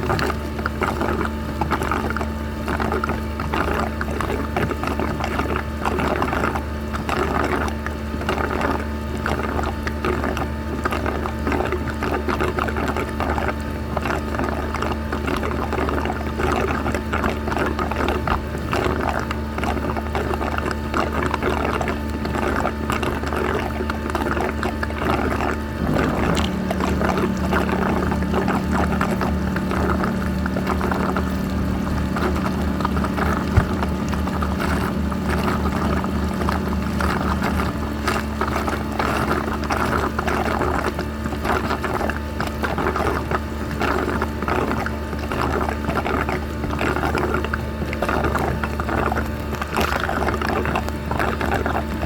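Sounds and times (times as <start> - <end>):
steady machine hum: 0.0 - 52.0
water splashing and sloshing: 0.0 - 52.0.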